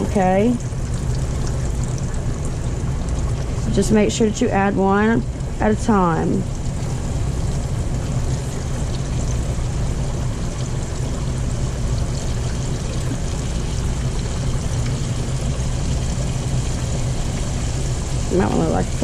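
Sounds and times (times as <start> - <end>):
deep fryer low hum: 0.0 - 19.0.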